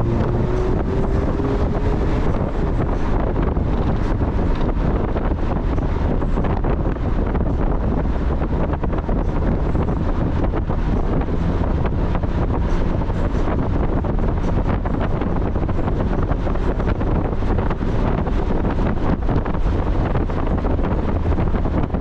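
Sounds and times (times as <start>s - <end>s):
car engine and road noise: 0.0s - 22.0s
wind buffeting microphone: 0.0s - 22.0s.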